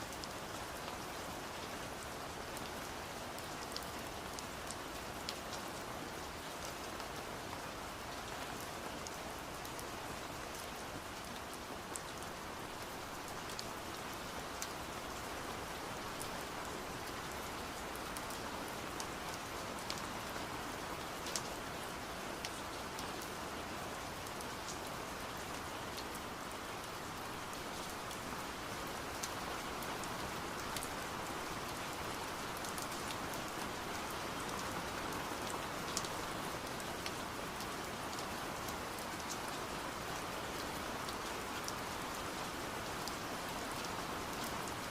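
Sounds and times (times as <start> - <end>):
rain hiss: 0.0 - 44.9.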